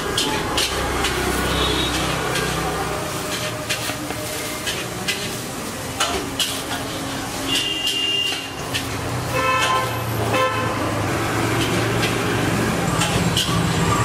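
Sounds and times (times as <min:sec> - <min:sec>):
road traffic din: 0:00.0 - 0:14.0.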